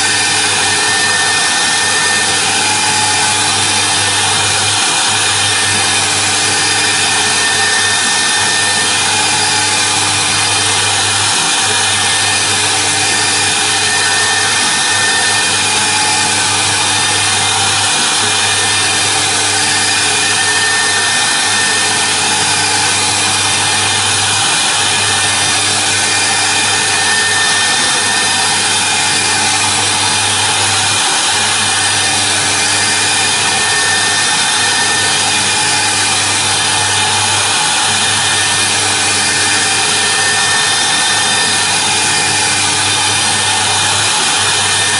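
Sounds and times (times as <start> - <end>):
router spindle cutting foam: 0.0 - 44.9.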